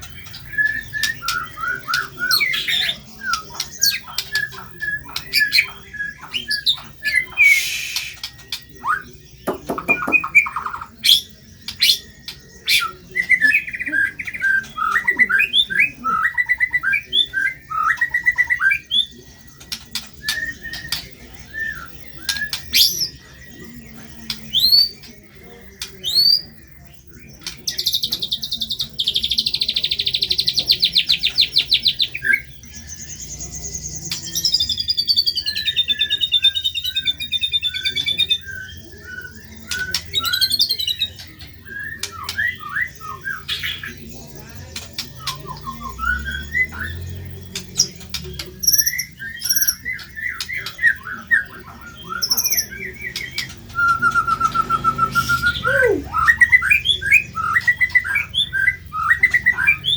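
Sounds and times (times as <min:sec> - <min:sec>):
bird singing whistled song: 0:00.0 - 0:59.9.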